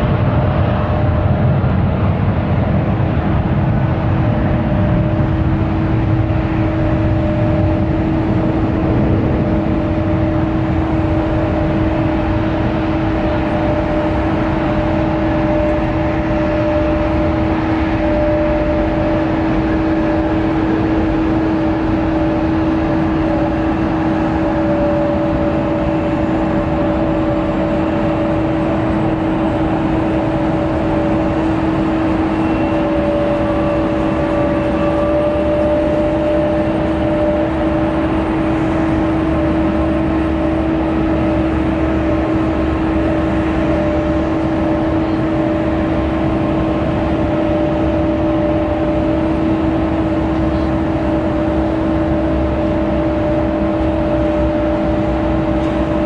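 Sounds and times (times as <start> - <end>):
airliner cabin noise: 0.0 - 56.0
constant low hum: 0.0 - 56.0.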